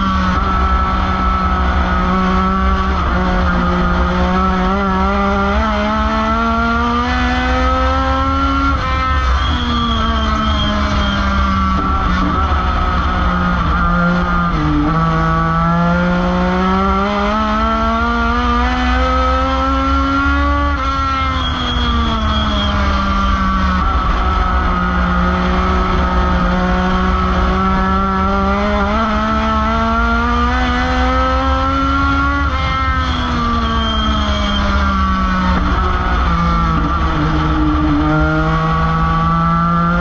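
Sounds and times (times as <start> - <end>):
race car engine from cockpit: 0.0 - 40.0.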